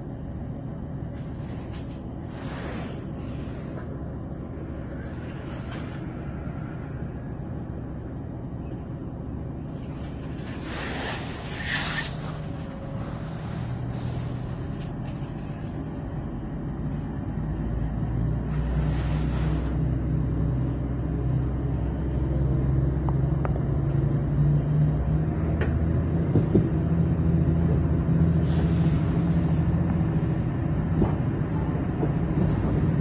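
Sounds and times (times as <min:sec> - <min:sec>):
train interior low hum: 0:00.0 - 0:33.0.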